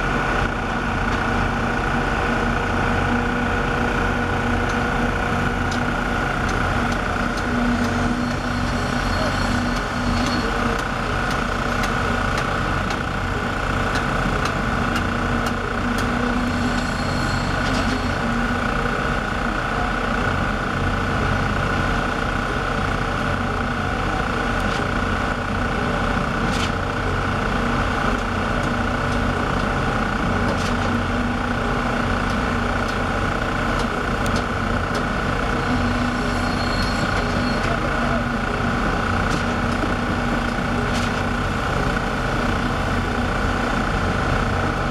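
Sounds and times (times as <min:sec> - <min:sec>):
machinery engine drone: 0:00.0 - 0:44.9.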